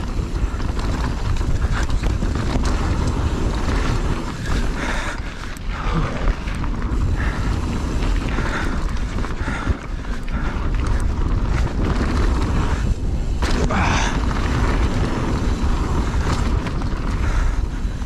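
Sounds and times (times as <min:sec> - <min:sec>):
bike clattering on rough trail: 0:00.0 - 0:18.0
wind over microphone: 0:00.0 - 0:18.0.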